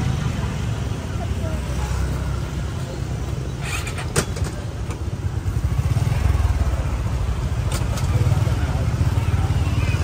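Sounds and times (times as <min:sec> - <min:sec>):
car engines running: 0:00.0 - 0:10.0
motorbike engines running: 0:00.0 - 0:10.0.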